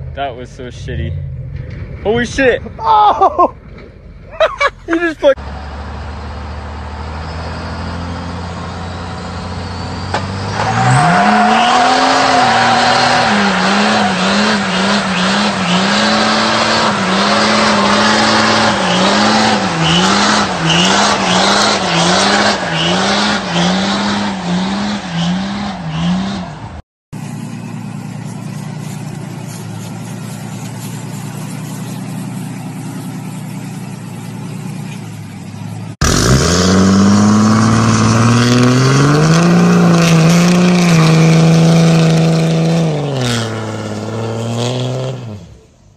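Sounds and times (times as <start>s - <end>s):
tires screeching: 0.0s - 45.9s
diesel pickup engine revving: 3.6s - 45.7s.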